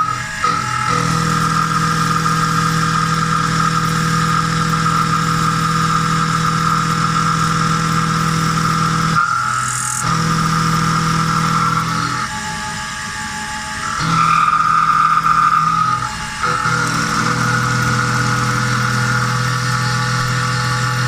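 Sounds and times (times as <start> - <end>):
milling machine running: 0.0 - 21.0.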